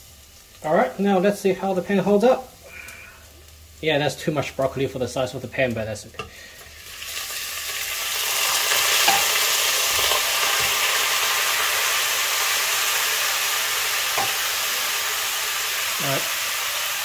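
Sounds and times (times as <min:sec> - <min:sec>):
broccoli sizzling in a pan: 0:00.0 - 0:17.0.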